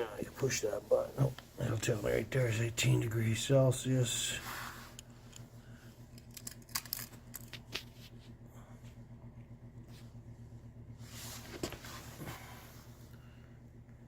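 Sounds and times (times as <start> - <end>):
heater low hum: 0.0 - 14.0.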